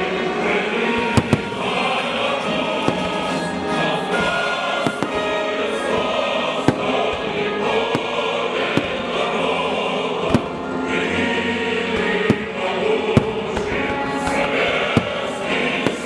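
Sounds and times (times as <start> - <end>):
fireworks bursting: 0.0 - 11.0, 11.9 - 16.0
choral music: 0.0 - 16.0.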